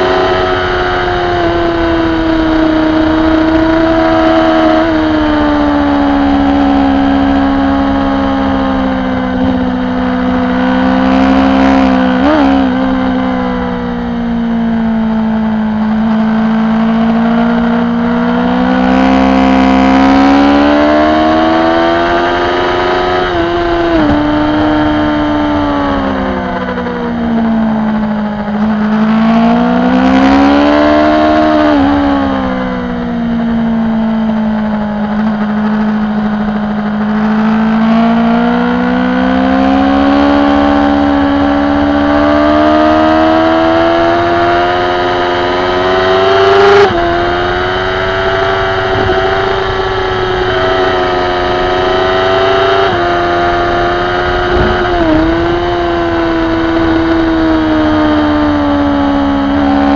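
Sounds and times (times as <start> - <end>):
motorcycle engine at race speed: 0.0 - 59.9.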